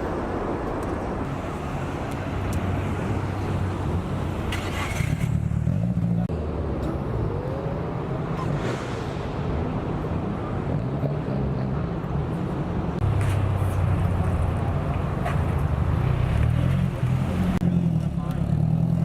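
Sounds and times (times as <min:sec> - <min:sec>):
car engines rumbling: 0:00.0 - 0:19.0.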